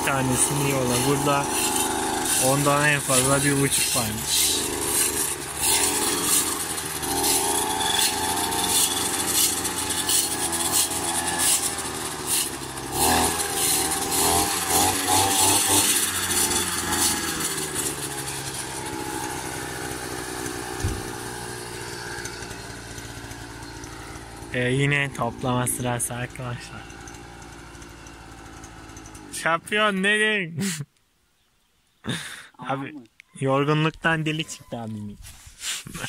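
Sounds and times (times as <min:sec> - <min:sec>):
brush cutter running: 0:00.0 - 0:29.5
grass crackling under cutter: 0:00.0 - 0:29.5.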